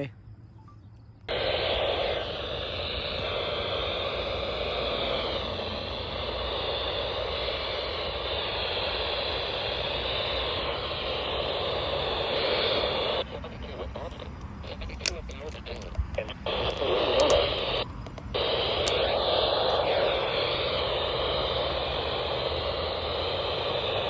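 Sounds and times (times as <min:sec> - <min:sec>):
radio static hiss: 0:01.3 - 0:24.0.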